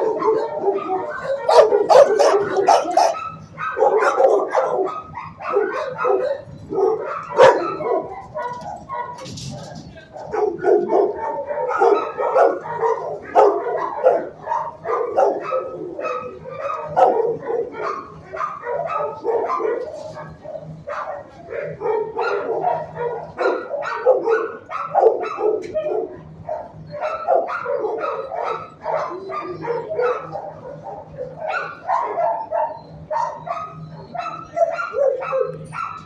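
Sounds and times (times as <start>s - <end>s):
dog yipping: 0.0s - 9.3s, 10.4s - 36.0s
dogs barking: 0.0s - 36.0s.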